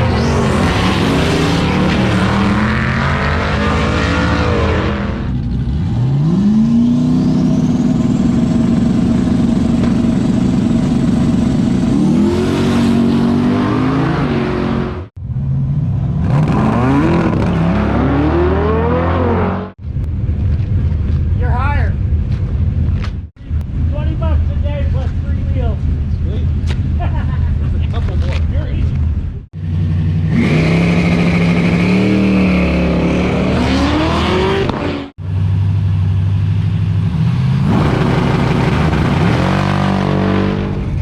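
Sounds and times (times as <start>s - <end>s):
race car engines at full throttle: 0.0s - 41.0s.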